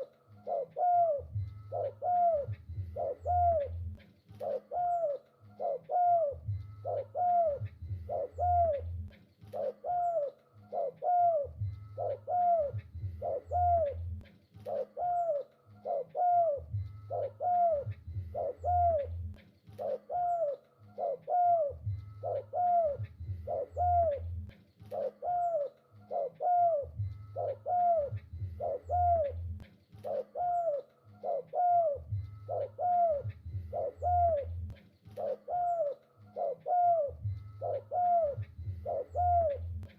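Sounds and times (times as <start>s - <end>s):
deeper low cooing sound: 0.0s - 39.9s
dove cooing: 0.0s - 39.9s.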